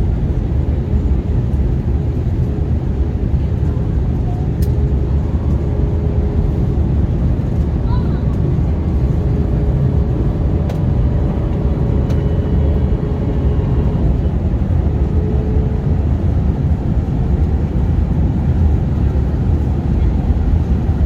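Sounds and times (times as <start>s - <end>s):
jet airliner cabin noise: 0.0s - 21.0s.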